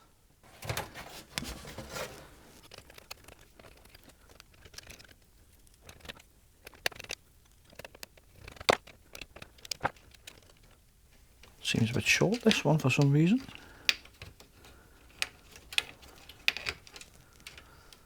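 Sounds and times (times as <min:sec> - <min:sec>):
parts and screws clicking: 0:00.6 - 0:18.0.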